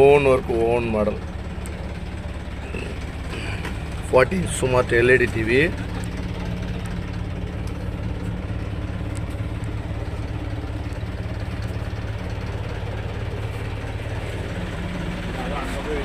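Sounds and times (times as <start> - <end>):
minibus engine idling: 0.0 - 16.0.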